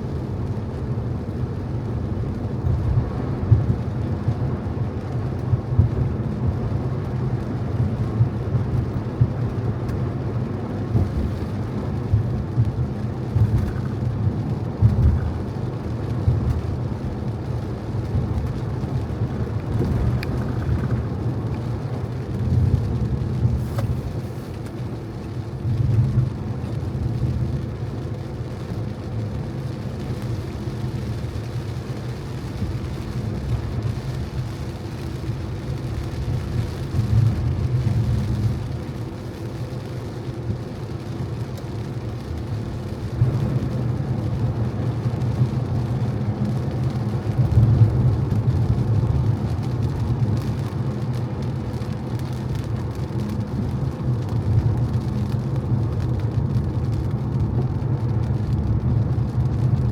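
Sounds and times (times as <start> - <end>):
car engine and road rumble: 0.0 - 59.9
tyres hissing on wet road: 0.0 - 59.9.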